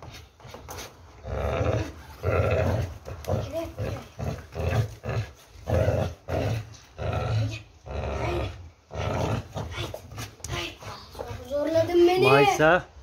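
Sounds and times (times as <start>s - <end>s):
dog growling: 1.2s - 11.8s.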